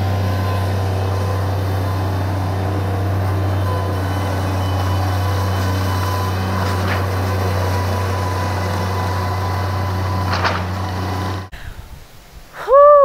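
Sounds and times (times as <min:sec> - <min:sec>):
loader engine droning: 0:00.0 - 0:11.5.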